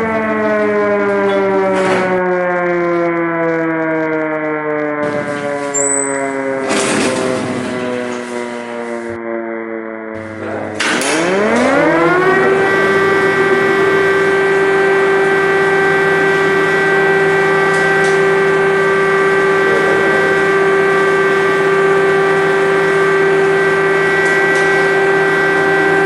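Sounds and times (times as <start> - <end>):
air-raid siren: 0.0 - 26.0.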